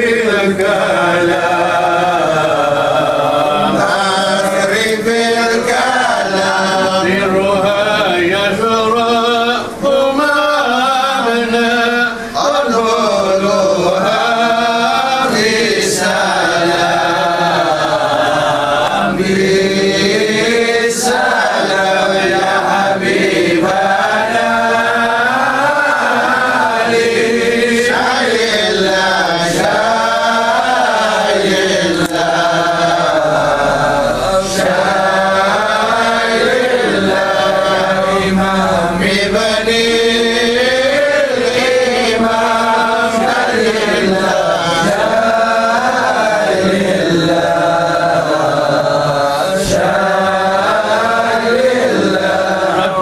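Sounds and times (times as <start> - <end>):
men chanting devotional recitation: 0.0 - 53.0.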